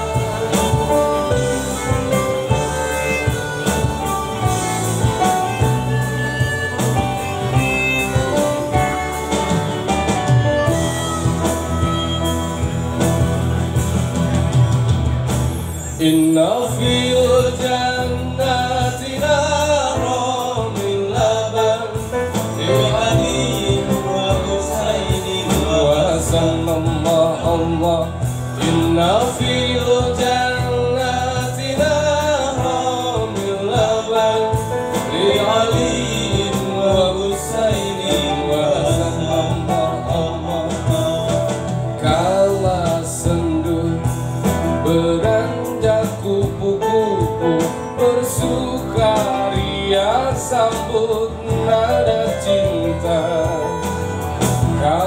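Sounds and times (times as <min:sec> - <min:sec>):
man singing: 0:00.0 - 0:13.2, 0:15.9 - 0:55.0
live band music: 0:00.0 - 0:55.0.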